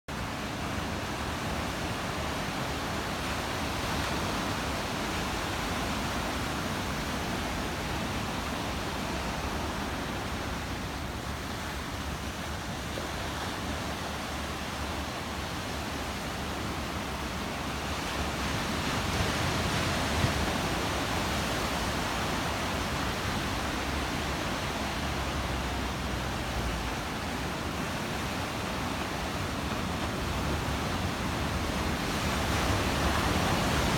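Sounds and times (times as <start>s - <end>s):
ocean waves washing in: 0.1s - 33.9s.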